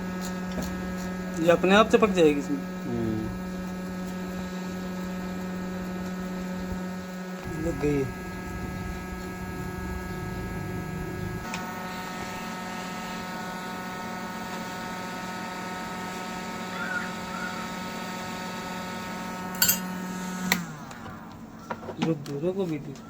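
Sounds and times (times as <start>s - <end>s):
hot-air blower humming: 0.0s - 21.5s.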